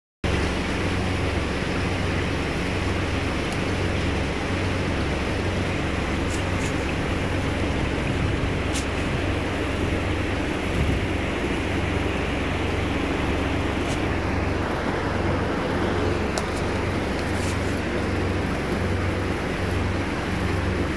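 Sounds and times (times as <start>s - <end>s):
aquarium air pump bubbling: 0.3s - 20.9s.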